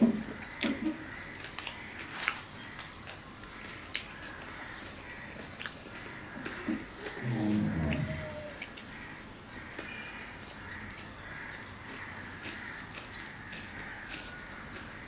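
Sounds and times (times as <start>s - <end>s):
chewing food: 0.6s - 9.1s, 9.8s - 15.0s.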